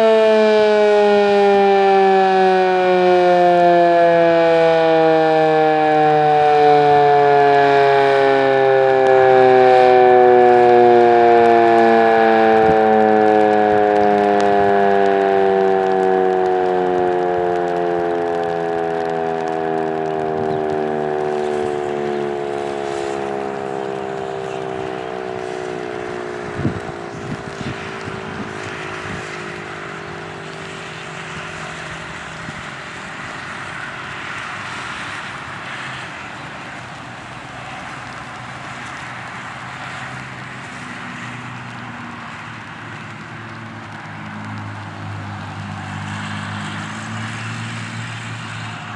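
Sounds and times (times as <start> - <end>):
warning siren winding down: 0.0 - 48.9
rain hissing: 7.8 - 48.6.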